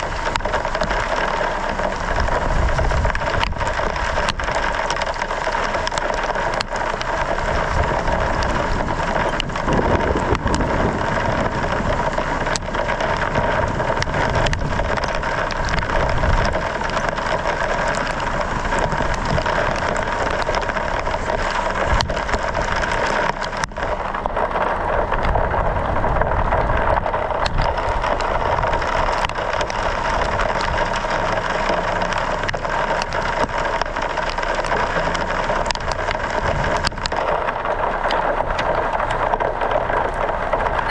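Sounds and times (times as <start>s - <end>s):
hail ticking: 0.0s - 40.9s.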